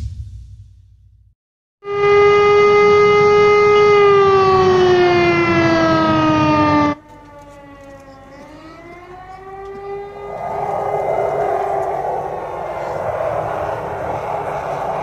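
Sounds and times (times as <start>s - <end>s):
air raid siren wailing: 1.8s - 15.0s.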